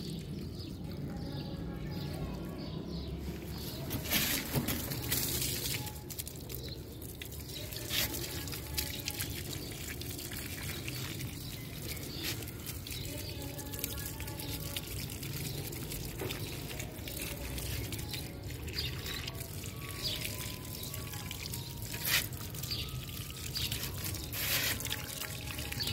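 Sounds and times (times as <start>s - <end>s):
water dripping: 0.0s - 1.6s, 3.3s - 25.9s
hose water splashing into pots: 0.0s - 25.9s.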